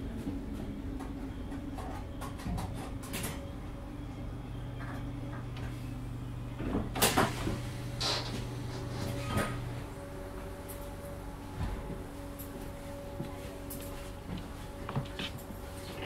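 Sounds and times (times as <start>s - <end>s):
train equipment hum: 0.0s - 16.0s.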